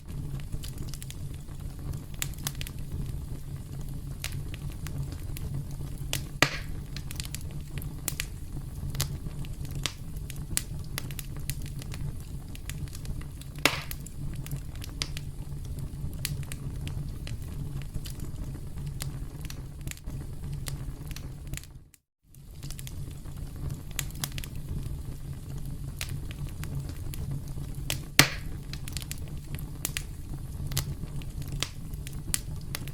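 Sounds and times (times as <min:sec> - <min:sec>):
campfire crackling: 0:00.0 - 0:32.9
loud fire pops: 0:00.0 - 0:32.9.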